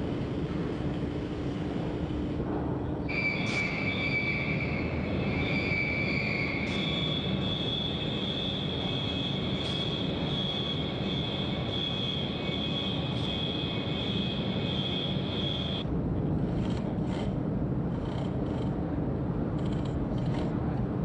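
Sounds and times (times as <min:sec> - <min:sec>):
high whine: 0:00.0 - 0:17.9
low hangar ambience: 0:00.0 - 0:21.0.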